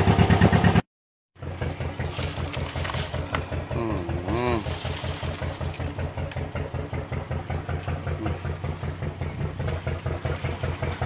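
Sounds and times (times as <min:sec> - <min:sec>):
boat engine running: 0:00.0 - 0:00.8, 0:01.4 - 0:11.0.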